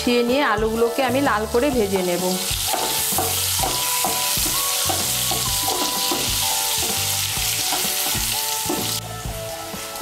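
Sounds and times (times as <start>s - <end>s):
potatoes sizzling in hot oil: 1.0s - 10.0s.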